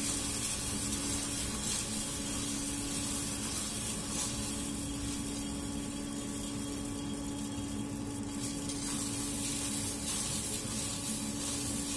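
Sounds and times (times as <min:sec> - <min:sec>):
coffee beans pouring: 0:00.0 - 0:11.9
roaster motor and fan hum: 0:00.0 - 0:11.9.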